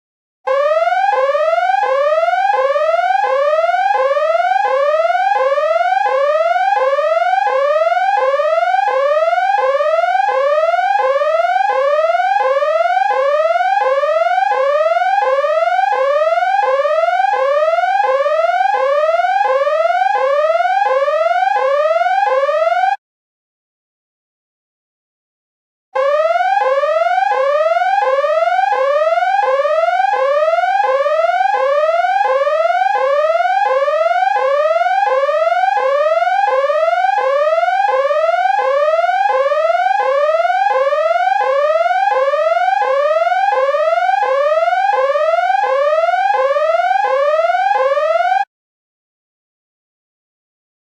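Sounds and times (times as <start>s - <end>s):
electronic siren whooping: 0.5s - 23.0s, 26.0s - 48.5s.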